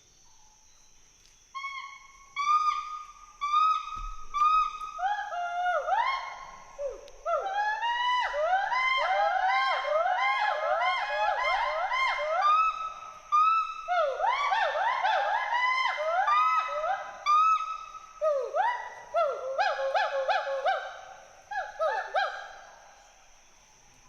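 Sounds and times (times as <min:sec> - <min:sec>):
gibbons whooping calls: 0:01.6 - 0:22.8.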